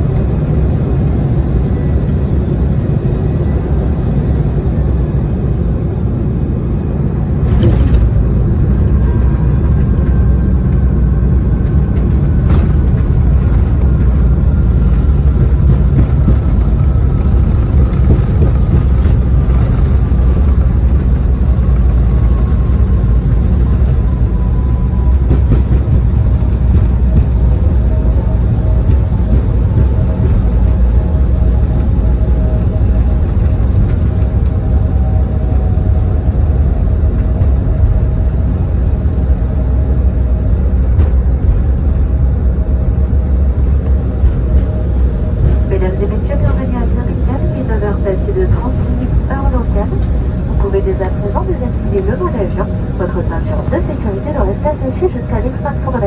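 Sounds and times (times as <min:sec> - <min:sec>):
airliner engines and wheels rumbling: 0:00.0 - 0:56.0
faint whining engine tones: 0:00.0 - 0:56.0.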